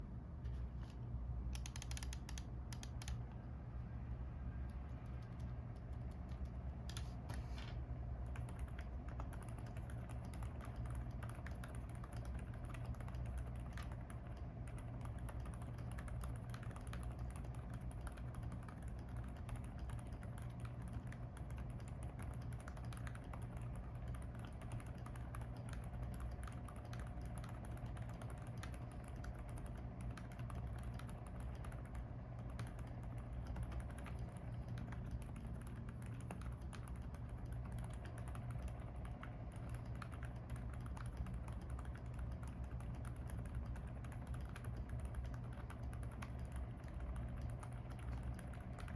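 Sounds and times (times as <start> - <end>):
fast typing on mechanical keyboard: 1.6 - 3.2, 4.7 - 48.9.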